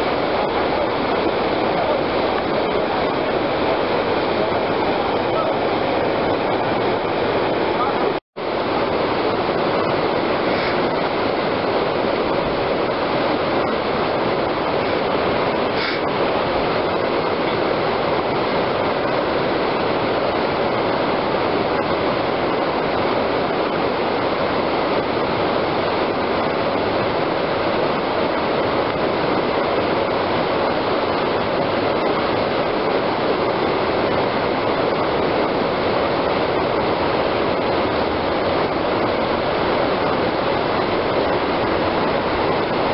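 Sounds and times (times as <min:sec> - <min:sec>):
whitewater rapids rushing: 0:00.0 - 0:42.9.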